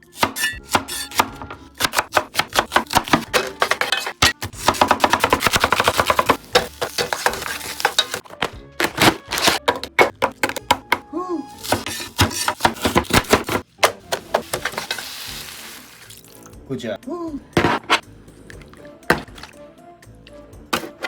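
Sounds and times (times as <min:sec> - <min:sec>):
light background music: 0:00.0 - 0:21.0.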